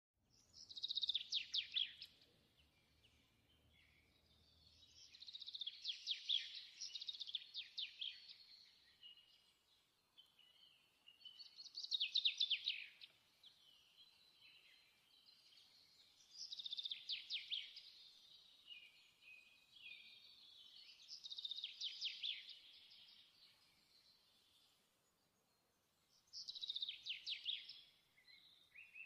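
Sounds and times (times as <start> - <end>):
songbird chirping: 0.2 - 29.0.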